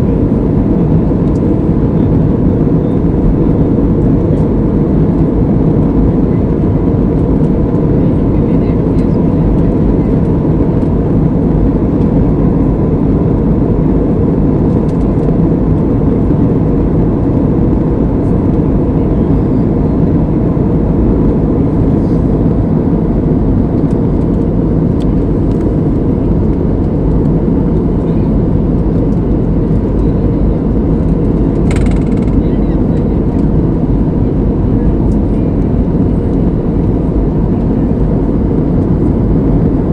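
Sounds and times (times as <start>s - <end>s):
airplane rumble: 0.0s - 39.9s.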